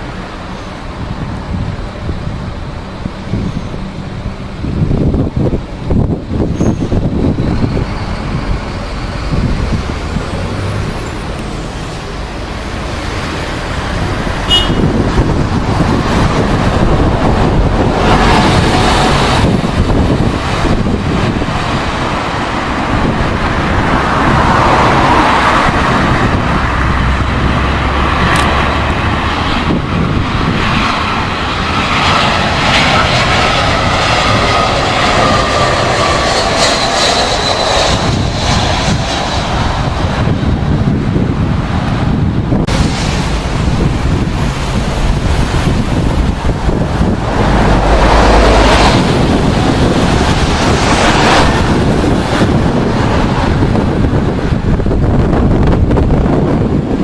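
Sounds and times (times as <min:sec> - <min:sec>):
jet engine whine: 0:00.0 - 0:57.0
jet engines rumbling: 0:00.0 - 0:57.0.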